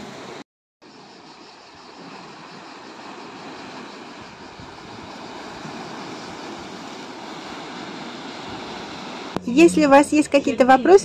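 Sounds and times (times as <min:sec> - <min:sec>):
sea surf on rocky shore: 0:00.0 - 0:09.8.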